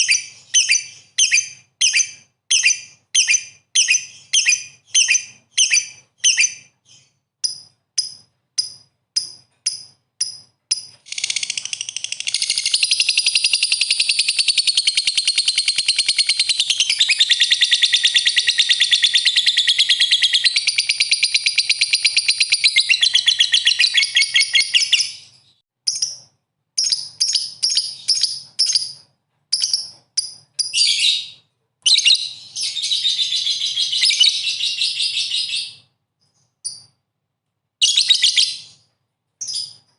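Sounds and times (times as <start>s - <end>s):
bird chirping: 0.0s - 37.0s, 37.8s - 39.9s.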